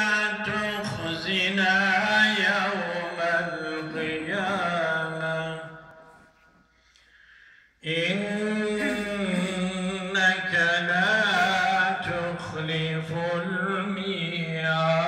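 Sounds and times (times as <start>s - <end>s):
man chanting a recitation: 0.0s - 6.2s, 7.8s - 15.0s.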